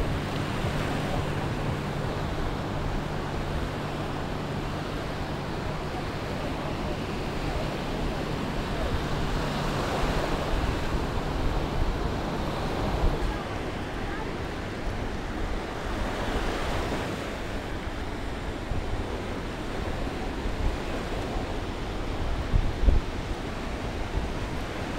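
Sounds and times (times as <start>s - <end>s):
waves washing up a shore: 0.0s - 24.9s
wind on microphone: 0.0s - 24.9s.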